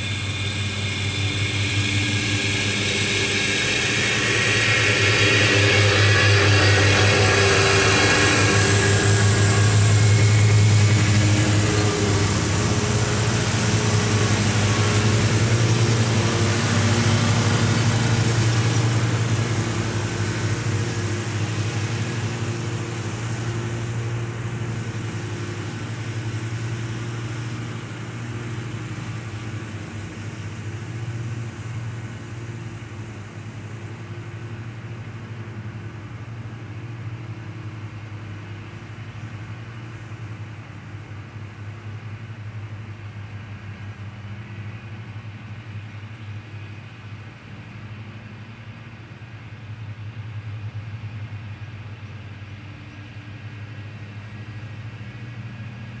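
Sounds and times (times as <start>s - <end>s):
distant mower engines: 0.0s - 56.0s.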